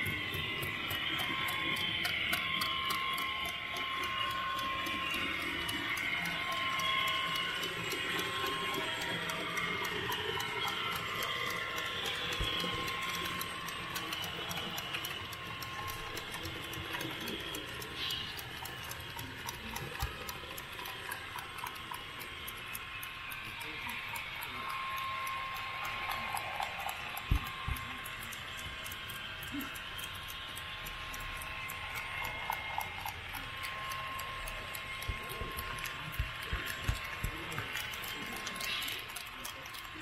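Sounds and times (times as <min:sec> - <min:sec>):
thin whine: 0:00.0 - 0:40.0
wheels clicking: 0:00.0 - 0:40.0.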